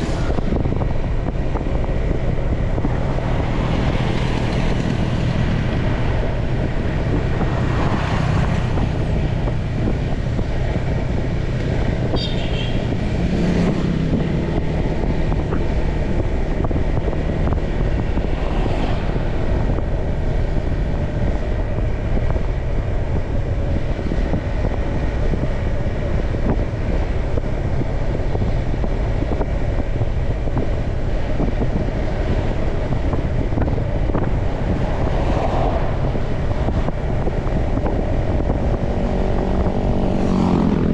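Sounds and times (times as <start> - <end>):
motorcycle engine drone: 0.0 - 40.9
wind buffeting microphone: 0.0 - 40.9.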